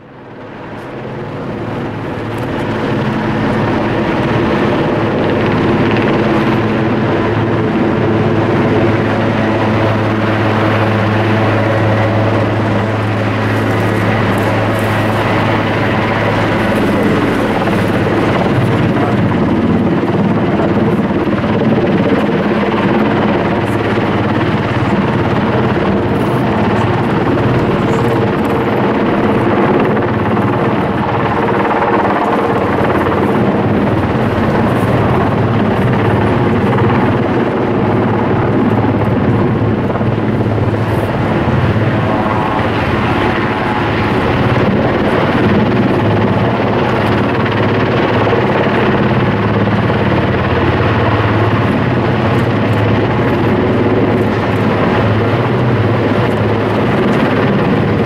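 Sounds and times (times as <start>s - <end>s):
helicopter flying overhead: 0.0s - 58.0s.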